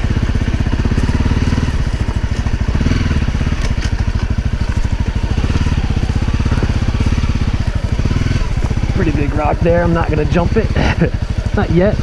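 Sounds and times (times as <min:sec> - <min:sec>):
motorcycle engine chugging: 0:00.0 - 0:12.0.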